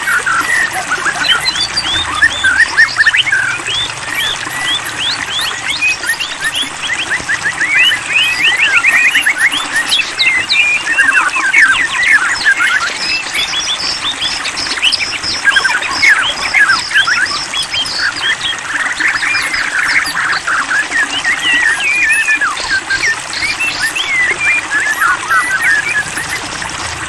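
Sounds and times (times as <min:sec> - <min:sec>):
songbird chirping and whistling: 0:00.0 - 0:26.6.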